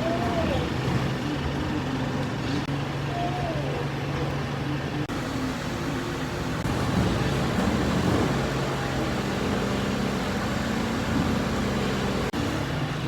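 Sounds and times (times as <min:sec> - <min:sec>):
garbage truck engine humming: 0:00.0 - 0:03.1, 0:04.1 - 0:13.0.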